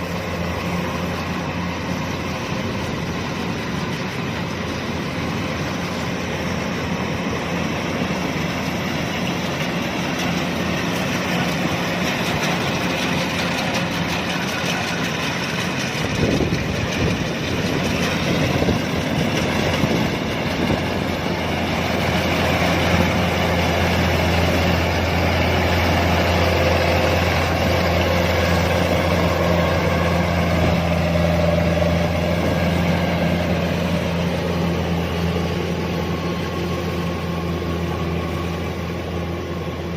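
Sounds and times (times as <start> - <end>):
threshing machinery rushing: 0.0 - 38.8
diesel engine drone: 0.0 - 39.9.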